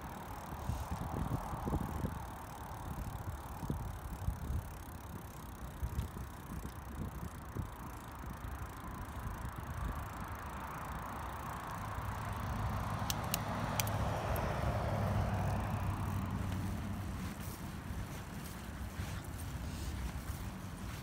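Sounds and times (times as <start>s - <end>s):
bicycle tyres on concrete: 0.0s - 21.0s.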